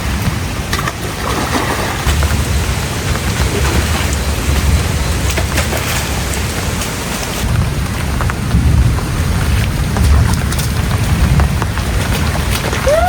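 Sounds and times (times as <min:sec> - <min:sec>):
continuous low rumble: 0:00.0 - 0:13.0
heavy rain pouring: 0:00.0 - 0:13.0.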